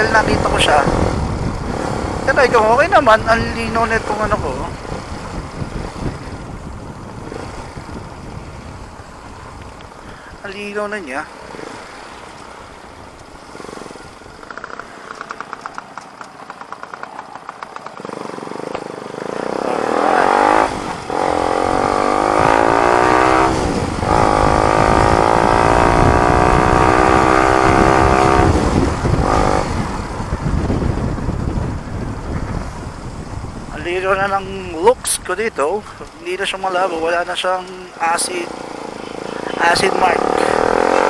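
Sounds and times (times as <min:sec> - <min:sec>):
motorcycle exhaust accelerating: 0:00.0 - 0:10.1, 0:11.4 - 0:33.7, 0:38.5 - 0:41.0.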